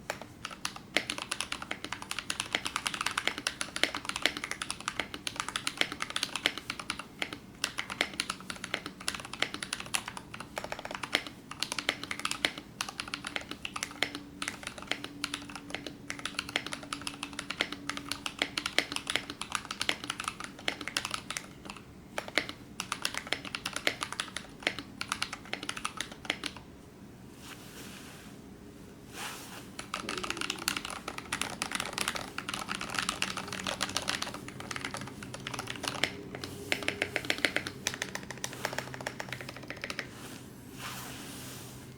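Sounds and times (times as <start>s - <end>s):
mechanical keyboard typing: 0.1s - 26.6s, 29.8s - 40.1s.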